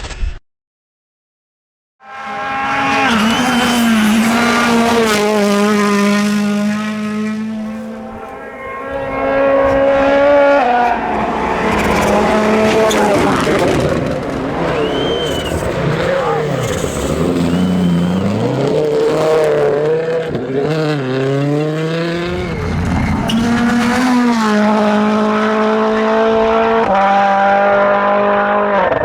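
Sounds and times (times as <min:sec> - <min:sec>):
rally car engine at high revs: 0:02.0 - 0:29.0.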